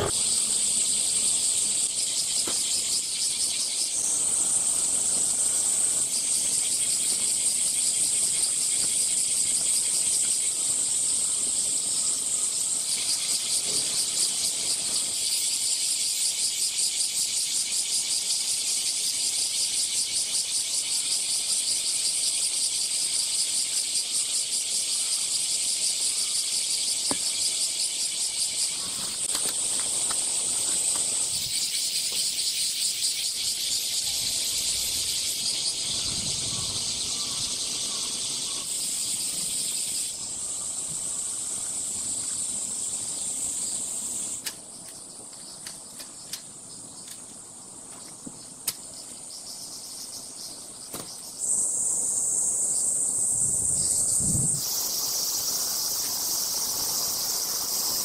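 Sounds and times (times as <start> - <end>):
cicadas shrilling: 0.0 - 58.0.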